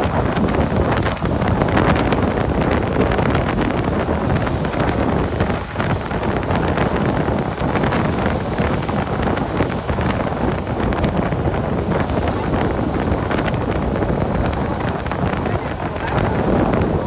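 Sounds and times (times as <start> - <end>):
motorbike engine and road noise: 0.0 - 17.0
wind on microphone: 0.0 - 17.0.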